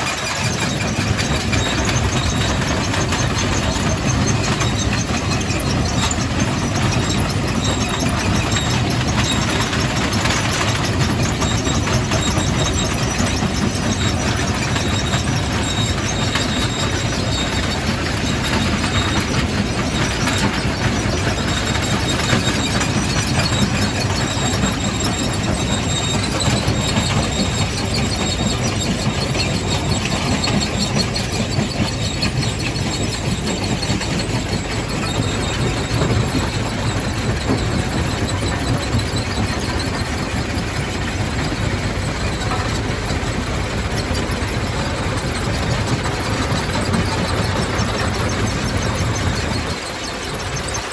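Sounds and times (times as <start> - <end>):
high squeal: 0.0 - 50.9.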